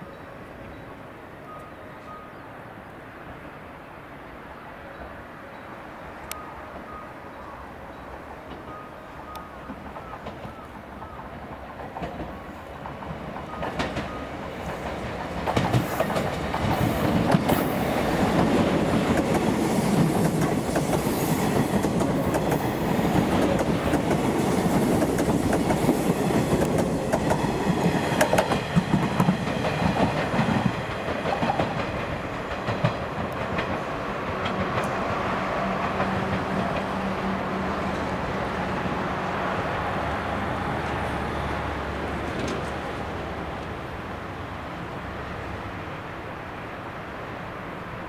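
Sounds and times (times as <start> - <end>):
train passing: 0.0 - 48.0.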